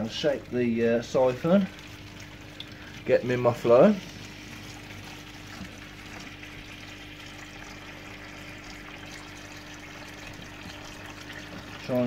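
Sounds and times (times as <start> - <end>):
low steady hum: 0.0 - 12.0
water trickling through a hose: 0.0 - 12.0.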